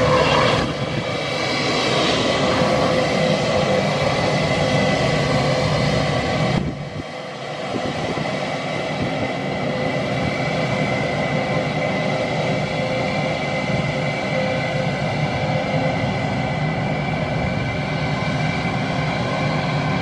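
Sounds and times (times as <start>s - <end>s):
jet engines roaring with whine: 0.0s - 20.0s.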